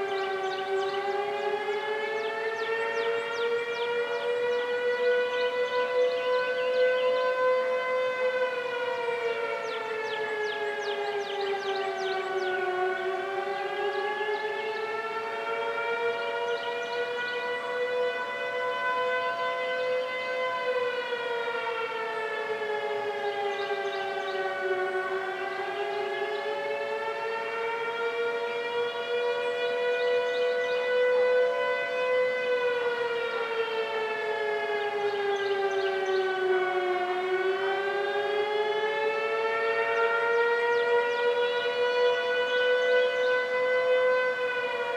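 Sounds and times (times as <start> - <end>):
storm warning siren wailing: 0.0 - 44.9.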